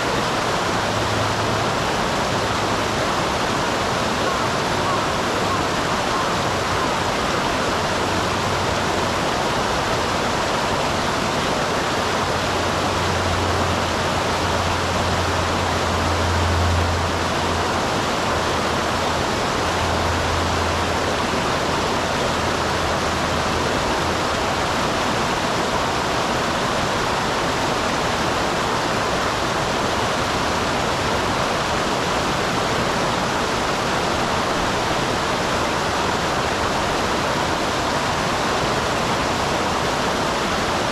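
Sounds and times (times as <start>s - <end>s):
waterfall water rushing: 0.0s - 40.9s.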